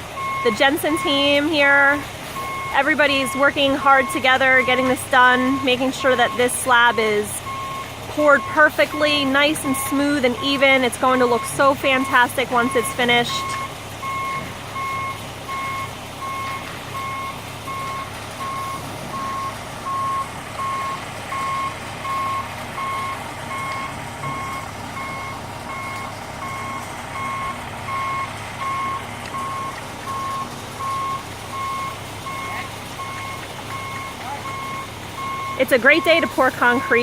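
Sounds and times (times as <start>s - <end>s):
diesel engine running: 0.0s - 37.0s
truck backup alarm beeping: 0.0s - 37.0s.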